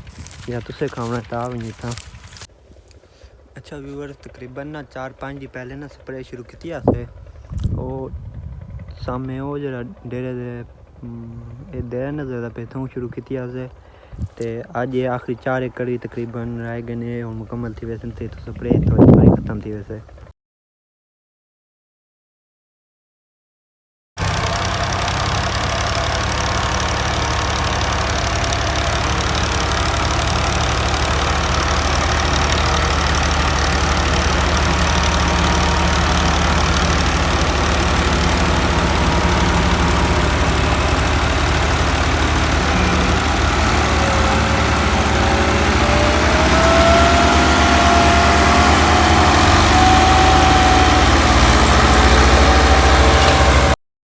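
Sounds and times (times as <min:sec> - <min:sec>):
tractor engine running: 0:00.0 - 0:19.4, 0:24.2 - 0:53.8.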